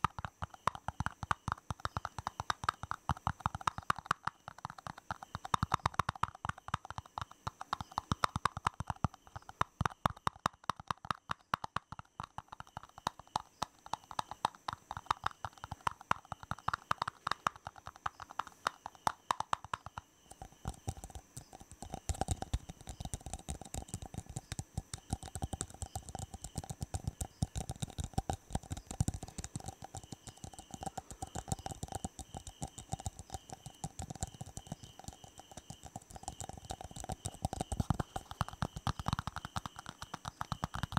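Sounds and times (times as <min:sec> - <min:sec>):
fast tapping on hard objects: 0:00.0 - 0:40.9.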